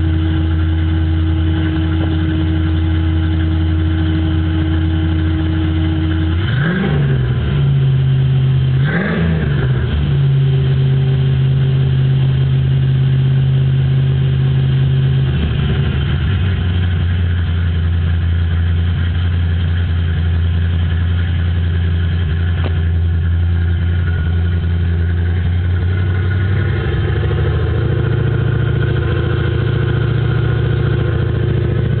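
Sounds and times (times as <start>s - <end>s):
car engine idling and revving: 0.0s - 32.0s
engine hum: 0.0s - 32.0s.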